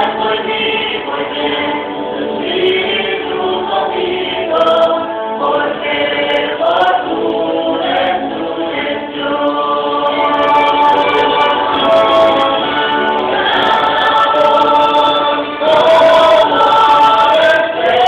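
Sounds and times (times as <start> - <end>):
mixed choir singing in harmony: 0.0 - 18.0.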